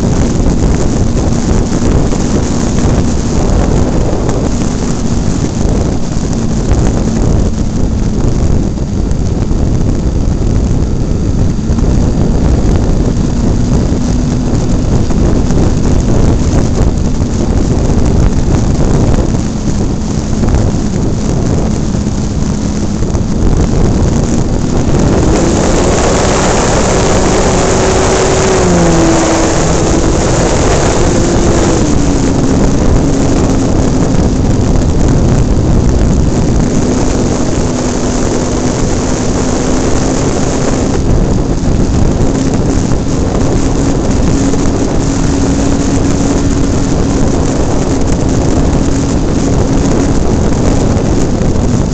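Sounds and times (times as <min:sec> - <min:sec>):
airflow rushing over microphone: 0:00.0 - 0:51.9.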